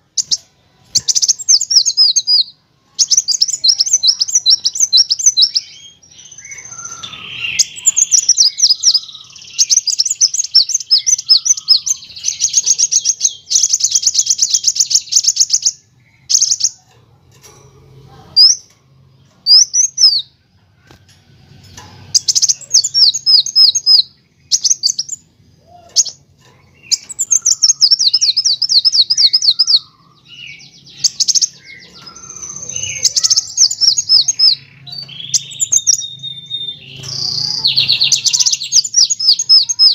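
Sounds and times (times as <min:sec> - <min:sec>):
sunbird trilling song: 0:00.0 - 0:16.8, 0:19.2 - 0:20.4, 0:22.2 - 0:39.9.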